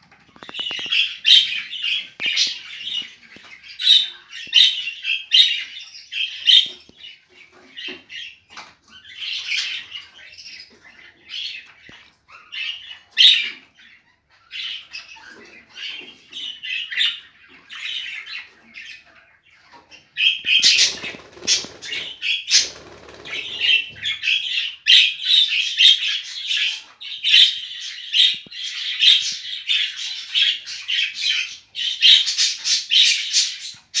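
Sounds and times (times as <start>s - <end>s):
bird calls and squawks: 0.0s - 34.0s.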